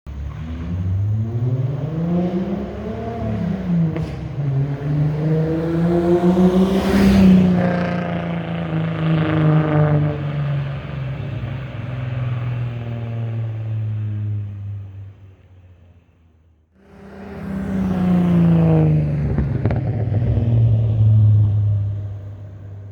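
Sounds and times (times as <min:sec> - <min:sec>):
car engine revving: 0:00.1 - 0:15.6, 0:16.8 - 0:22.9.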